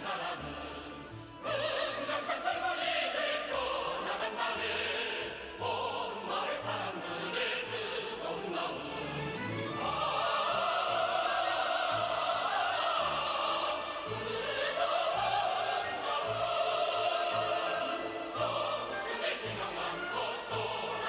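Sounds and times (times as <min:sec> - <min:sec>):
operatic singing: 0:00.0 - 0:21.0
orchestral accompaniment: 0:00.0 - 0:21.0.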